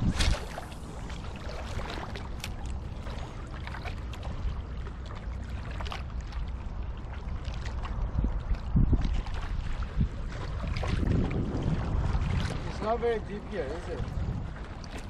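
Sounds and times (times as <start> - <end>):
water trickling at shore: 0.0 - 15.0
wind rumbling on microphone: 0.0 - 15.0.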